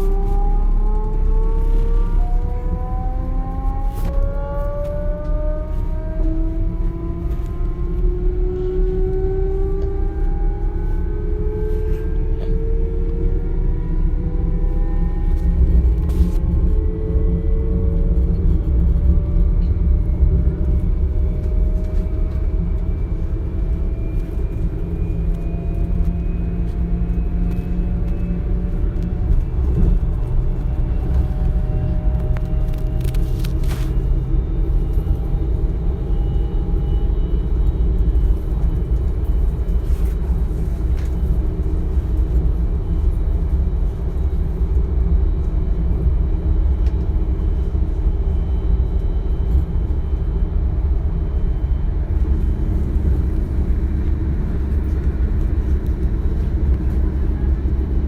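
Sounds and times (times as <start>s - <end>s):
train rolling rumble: 0.0s - 58.0s.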